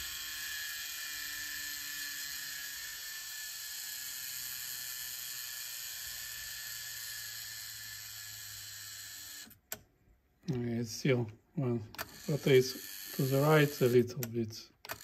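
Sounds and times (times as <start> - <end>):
cassette deck fast-winding whir: 0.0 - 9.8, 11.9 - 15.0.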